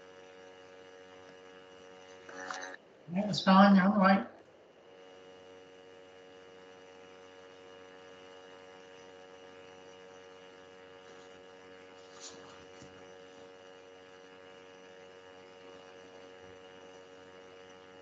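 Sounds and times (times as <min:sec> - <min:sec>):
faint mains hum: 0:00.0 - 0:18.0.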